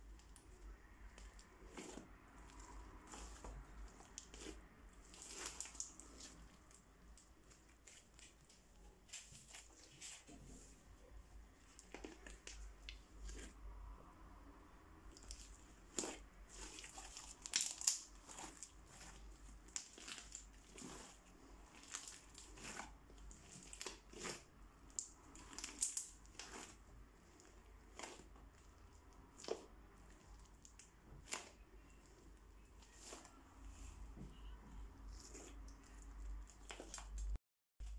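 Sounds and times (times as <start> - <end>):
crunchy slime crackling: 0.0 - 10.3, 11.6 - 13.6, 15.0 - 37.9
slime squishing: 0.0 - 37.9.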